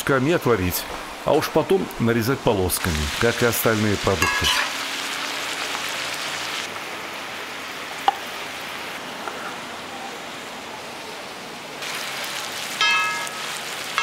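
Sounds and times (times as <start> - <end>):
meat and vegetables sizzling in fat: 0.6 - 14.0.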